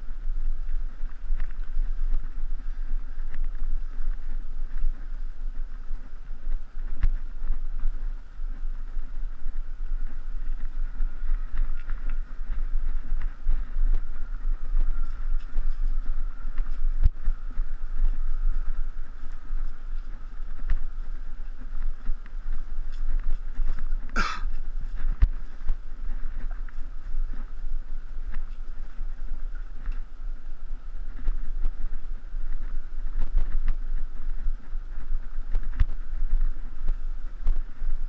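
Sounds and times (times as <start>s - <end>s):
bike tyres rolling on dirt: 0.0s - 38.0s
wind noise on microphone: 0.0s - 38.0s.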